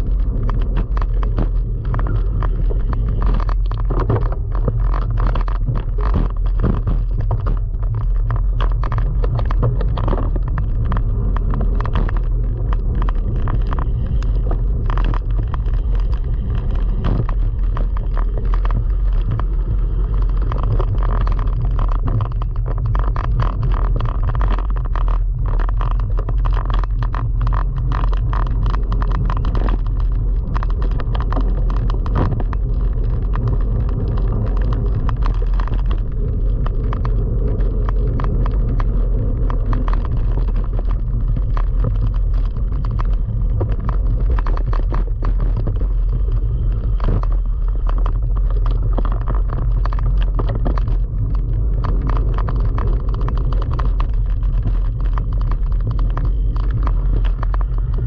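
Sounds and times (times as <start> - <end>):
bike rattling and knocking: 0.0 - 58.0
bike tyres rumbling: 0.0 - 58.0.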